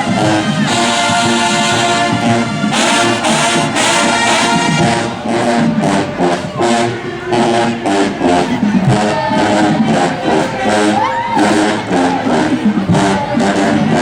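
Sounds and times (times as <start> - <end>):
marching band brass playing chords: 0.0 - 14.0.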